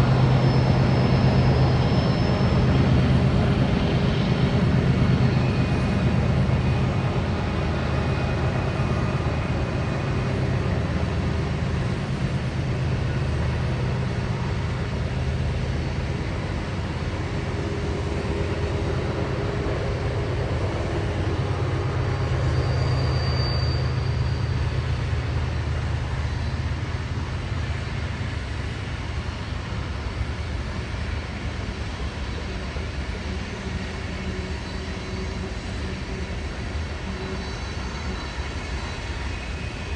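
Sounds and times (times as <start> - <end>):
locomotive engine rumble: 0.0 - 39.9
train rolling noise: 0.0 - 39.9.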